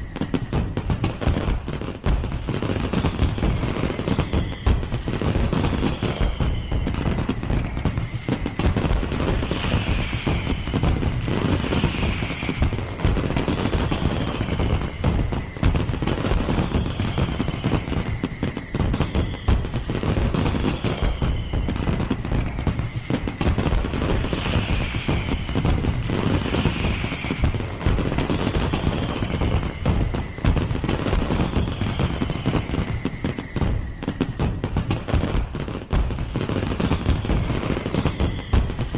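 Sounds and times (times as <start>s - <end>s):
fireworks bangs and crackles: 0.0s - 38.9s
high falling whistles: 0.0s - 38.9s.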